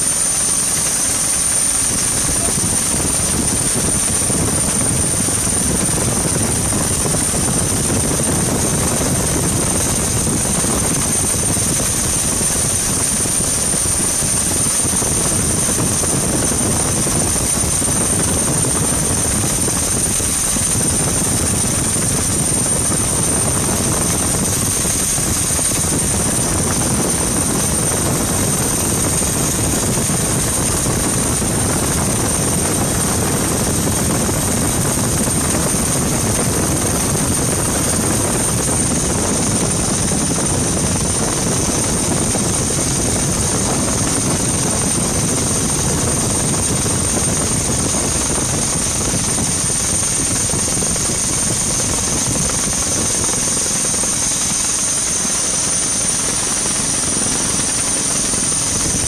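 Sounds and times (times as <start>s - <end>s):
helicopter rotor and engine: 0.0s - 59.0s
steady high whine: 0.0s - 59.0s.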